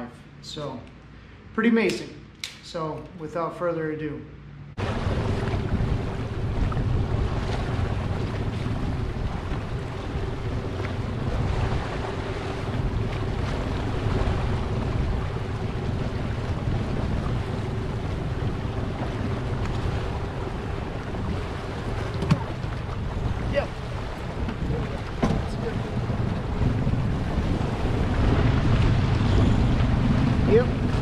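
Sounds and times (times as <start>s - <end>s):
water washing past hull: 4.7s - 31.0s
boat motor running: 4.8s - 31.0s
wind buffeting microphone: 4.8s - 31.0s.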